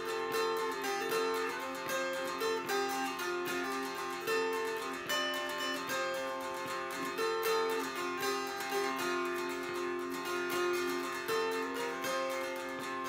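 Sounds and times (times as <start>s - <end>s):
dulcimer strummed: 0.0s - 13.0s.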